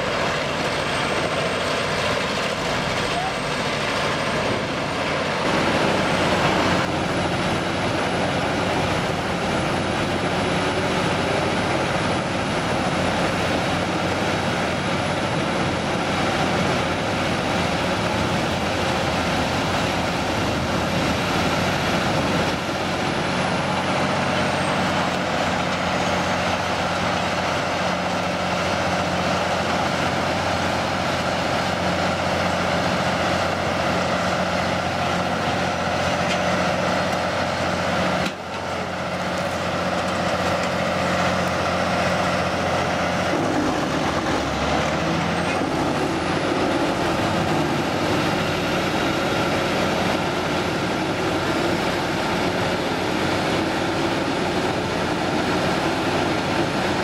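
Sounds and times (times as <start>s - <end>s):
wood chipper engine running: 0.0s - 57.0s.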